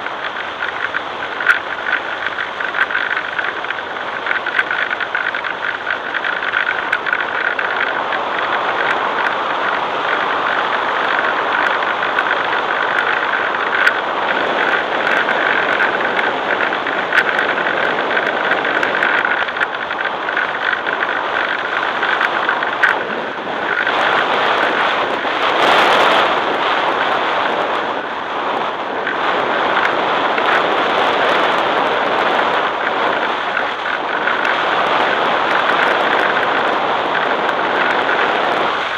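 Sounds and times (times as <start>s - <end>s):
model airplane motor whine: 0.0s - 38.9s
rush of air and wind: 0.0s - 38.9s.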